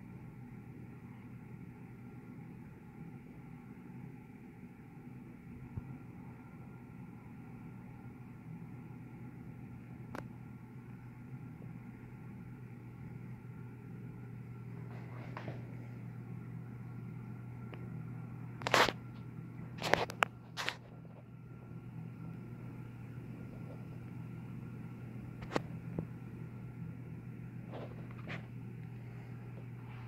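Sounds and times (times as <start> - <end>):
aquarium equipment humming: 0.0 - 30.0.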